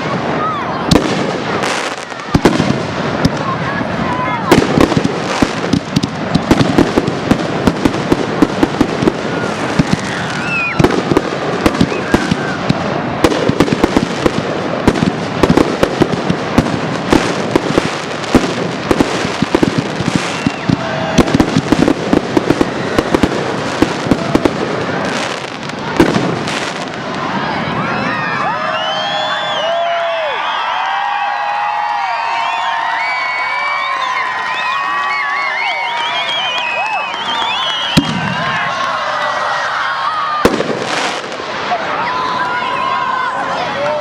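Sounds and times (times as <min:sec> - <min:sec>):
fireworks whistles: 0:00.0 - 0:27.0, 0:28.2 - 0:30.7, 0:32.3 - 0:38.6
fireworks crackling: 0:00.0 - 0:30.8, 0:31.7 - 0:44.0.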